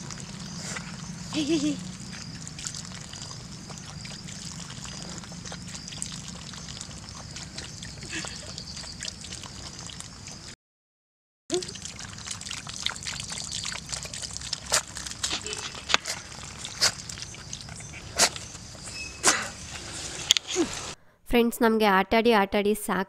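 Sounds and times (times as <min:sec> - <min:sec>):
water trickling onto wet soil: 0:00.0 - 0:10.5, 0:11.5 - 0:20.8
dog lapping water: 0:00.0 - 0:10.6, 0:11.5 - 0:20.0.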